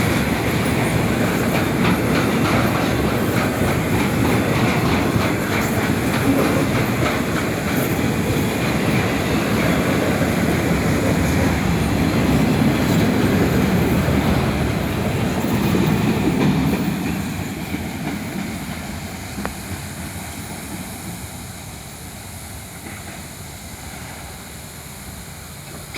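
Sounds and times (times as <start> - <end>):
freight train wheels clacking: 0.0 - 25.9
train rumble: 0.0 - 25.9.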